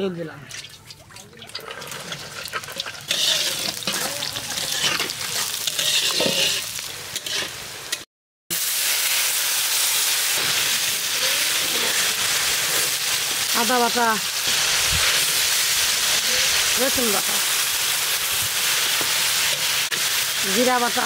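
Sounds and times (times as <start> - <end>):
oil sizzling in a pan: 1.6 - 21.0.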